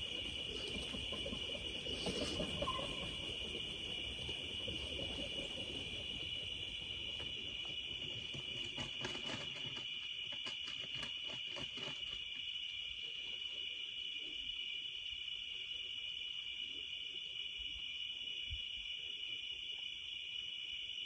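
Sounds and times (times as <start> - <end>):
night insects trilling: 0.0 - 21.0.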